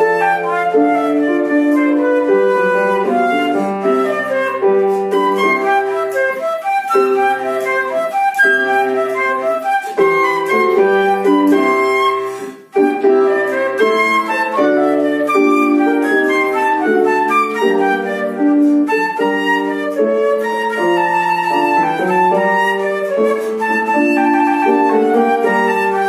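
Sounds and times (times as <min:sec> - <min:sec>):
flute playing classical melody: 0:00.0 - 0:26.0.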